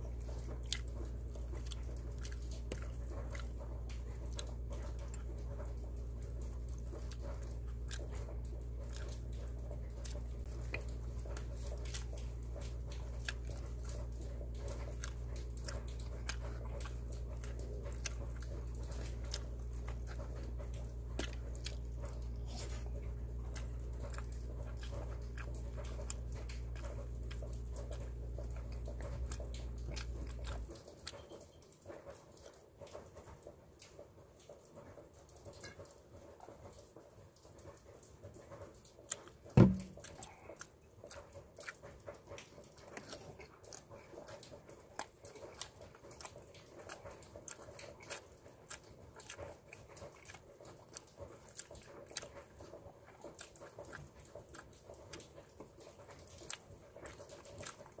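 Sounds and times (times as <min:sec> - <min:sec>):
man chewing food: 0:00.0 - 0:58.0.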